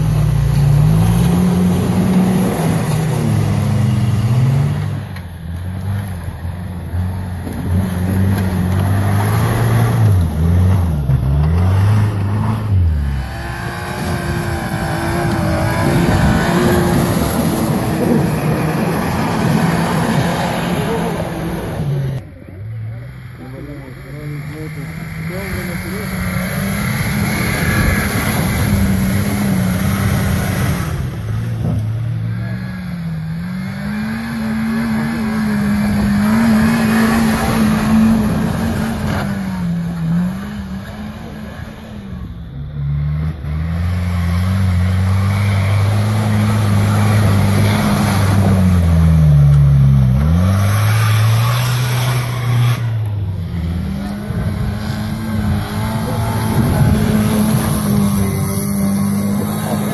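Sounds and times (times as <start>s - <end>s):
off-road engines revving: 0.0s - 59.9s.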